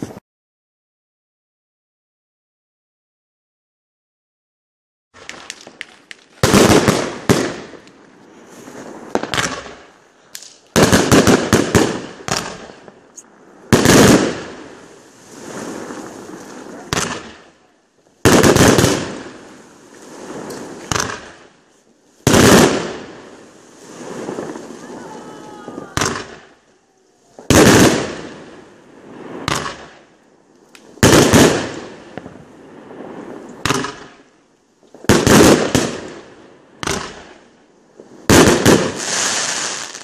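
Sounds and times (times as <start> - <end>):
fireworks bangs and crackling: 5.2 - 40.0.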